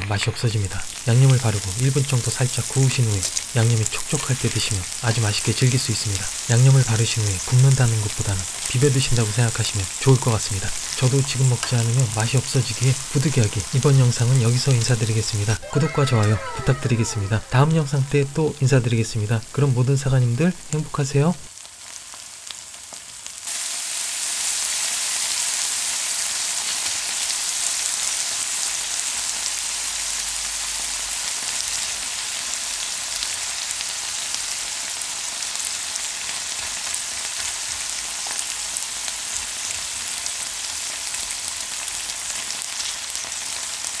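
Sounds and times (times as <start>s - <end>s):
meat sizzling in a pan: 0.0s - 44.0s.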